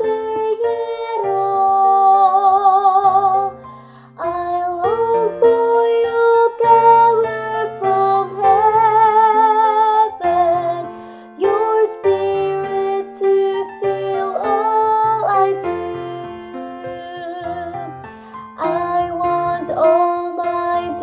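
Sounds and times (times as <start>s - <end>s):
woman singing soprano: 0.0s - 21.0s.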